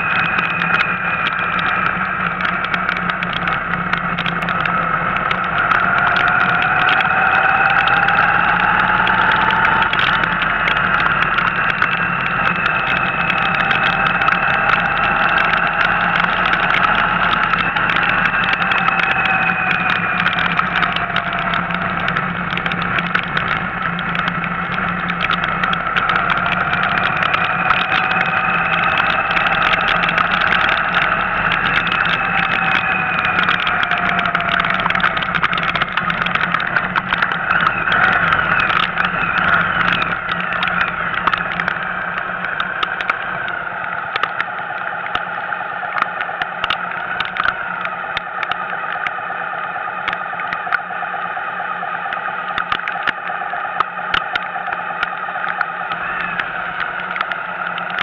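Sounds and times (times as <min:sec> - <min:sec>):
car engine running: 0:00.0 - 0:48.8
rain ticking on car: 0:00.0 - 0:58.0.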